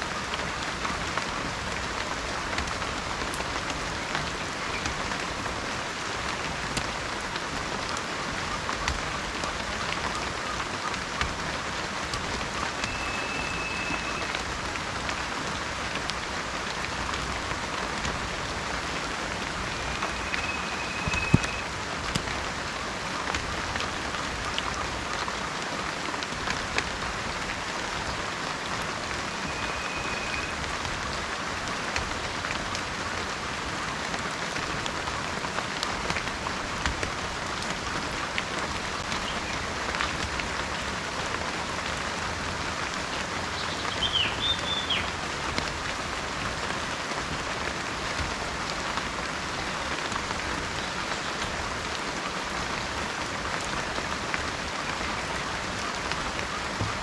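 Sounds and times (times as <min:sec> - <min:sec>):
heavy rain: 0:00.0 - 0:57.0
raindrop impacts: 0:00.0 - 0:57.0.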